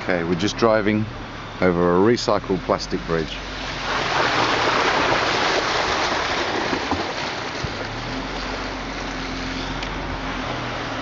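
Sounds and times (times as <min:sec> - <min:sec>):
vehicle tyre and road noise: 0:00.0 - 0:11.0.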